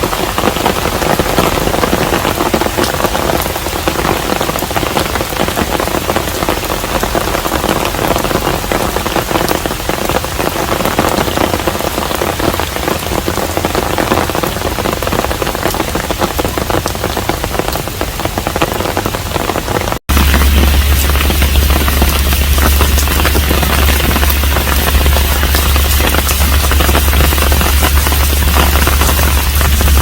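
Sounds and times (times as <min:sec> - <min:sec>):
raindrops striking close by: 0:00.0 - 0:30.0
steady rain hiss: 0:00.0 - 0:30.0.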